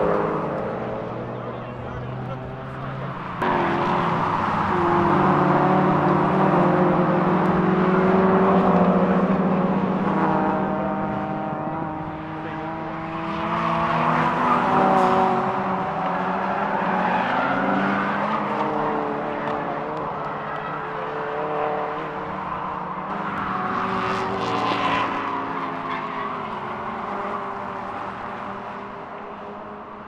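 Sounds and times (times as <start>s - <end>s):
race car engines revving past: 0.0s - 30.0s.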